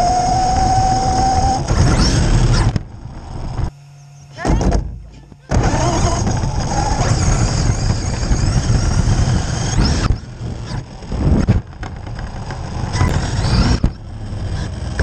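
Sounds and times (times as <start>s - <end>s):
electric motor whining: 0.0s - 15.0s
tyre and drivetrain noise: 0.0s - 15.0s.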